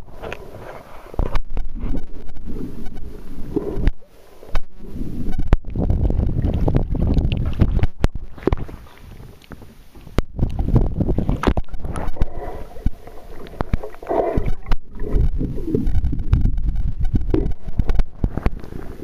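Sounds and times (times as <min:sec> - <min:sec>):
water sloshing underwater: 0:00.0 - 0:19.0.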